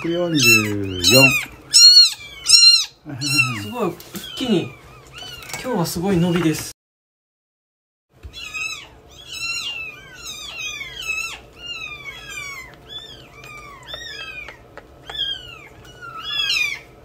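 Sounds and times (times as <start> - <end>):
kitten mewing: 0.0 - 5.6, 8.3 - 17.0.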